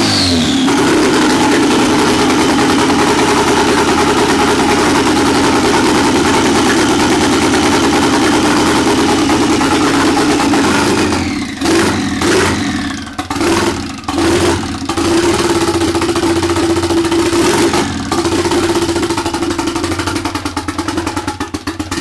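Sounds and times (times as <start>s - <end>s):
car engine revving: 0.0s - 21.3s.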